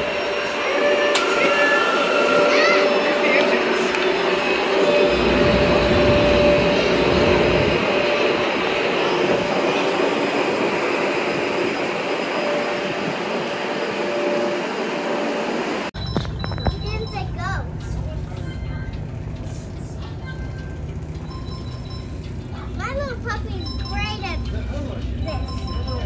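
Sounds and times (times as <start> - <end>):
train rushing rumble: 0.0 - 26.0.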